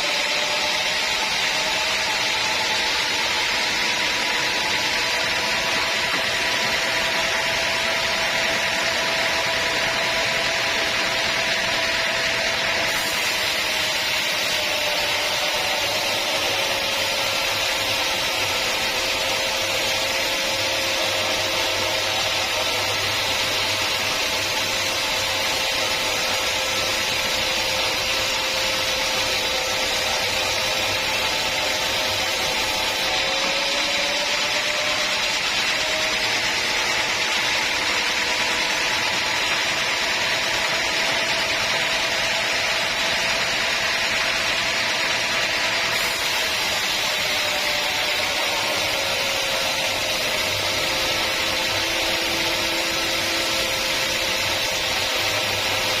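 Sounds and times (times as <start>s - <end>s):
saw cutting log: 0.0s - 56.0s
saw whine: 0.0s - 56.0s.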